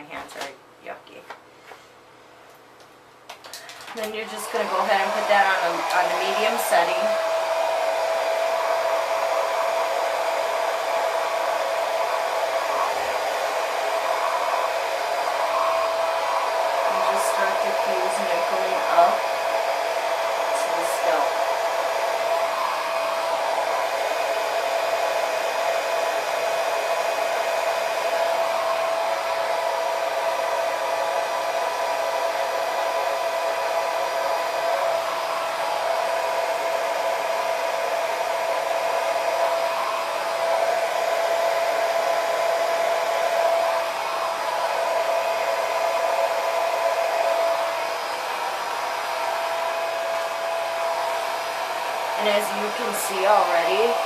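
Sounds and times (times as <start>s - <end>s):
blow dryer running: 3.4s - 54.0s.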